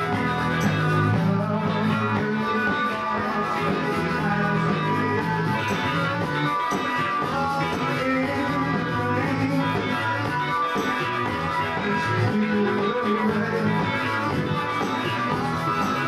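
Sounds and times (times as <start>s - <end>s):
electric guitars: 0.0s - 16.0s
live band playing: 0.0s - 16.0s.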